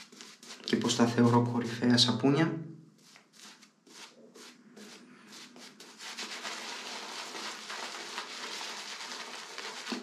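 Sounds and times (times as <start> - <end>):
shaving brush rubbing lather: 0.0 - 1.3, 3.0 - 10.0.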